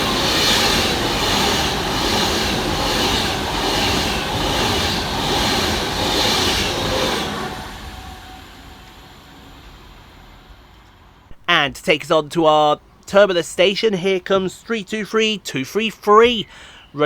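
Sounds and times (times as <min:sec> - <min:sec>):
electric train passing on rails: 0:00.0 - 0:16.5.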